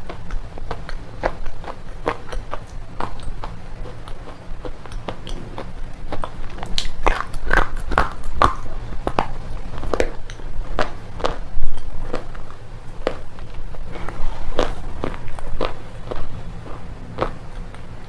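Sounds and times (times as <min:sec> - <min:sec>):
crisp crunches of chewing: 0:00.0 - 0:18.0.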